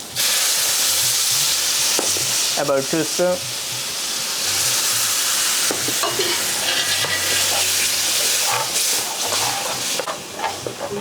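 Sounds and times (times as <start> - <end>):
food sizzling in oil: 0.0 - 10.8.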